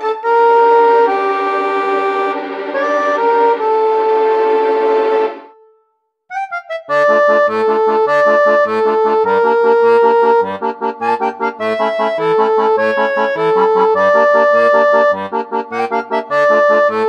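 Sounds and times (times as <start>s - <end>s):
background music melody: 0.0s - 17.0s.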